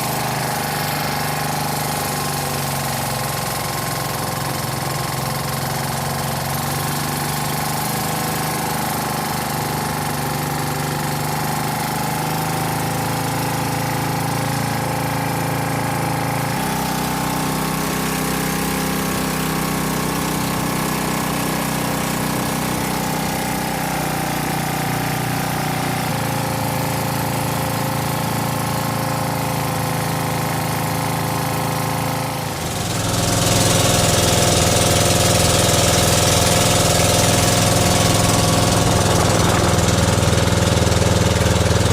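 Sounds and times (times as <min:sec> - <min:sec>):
small boat engine running: 0:00.0 - 0:41.9.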